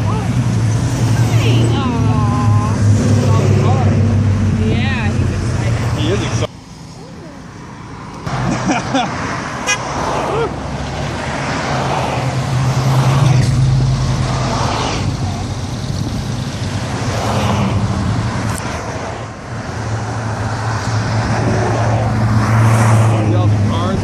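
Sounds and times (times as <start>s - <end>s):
cars passing with engine rumble: 0.0s - 24.0s.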